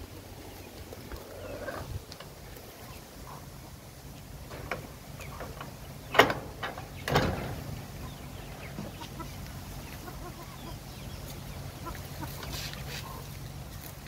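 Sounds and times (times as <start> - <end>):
chickens clucking softly: 0.4 - 14.0.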